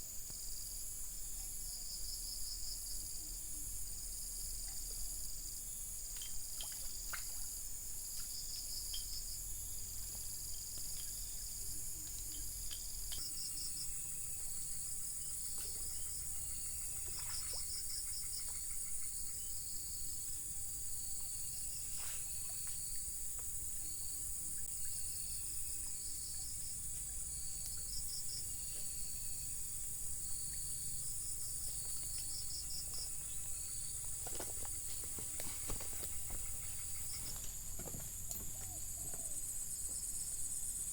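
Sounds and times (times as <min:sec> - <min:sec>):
insect chirps: 0:00.0 - 0:40.9.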